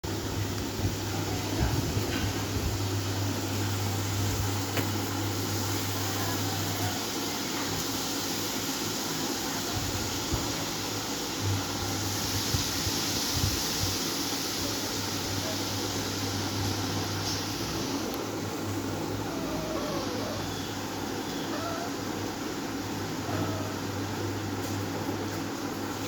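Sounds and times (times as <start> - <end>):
fan whirring hum: 0.0 - 26.0.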